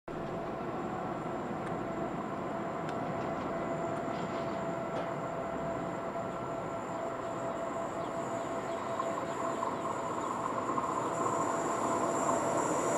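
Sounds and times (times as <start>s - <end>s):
faint held whine: 0.1s - 12.9s
train rumbling: 0.1s - 12.9s.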